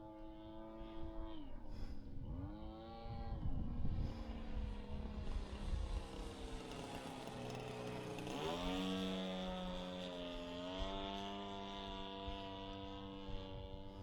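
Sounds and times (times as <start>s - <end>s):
model airplane engine running: 0.1s - 14.0s.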